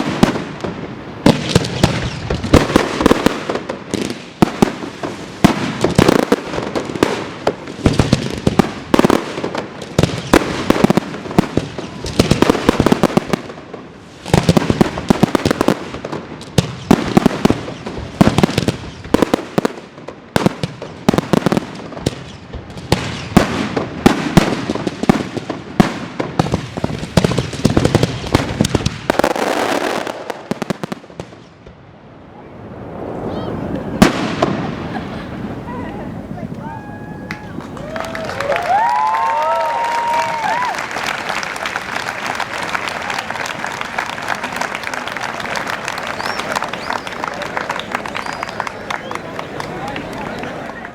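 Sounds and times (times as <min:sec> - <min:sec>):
fireworks bangs and crackling: 0:00.0 - 0:50.9.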